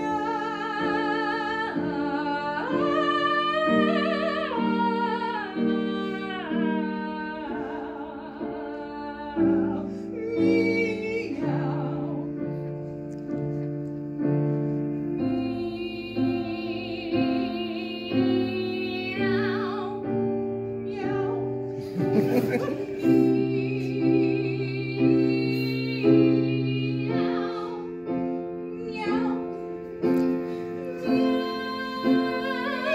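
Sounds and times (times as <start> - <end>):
piano chords: 0.0 - 32.9.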